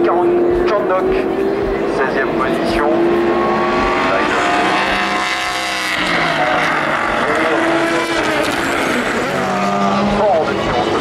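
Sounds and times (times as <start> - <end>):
race car engines passing: 0.0 - 11.0
steady rush of noise: 0.0 - 11.0.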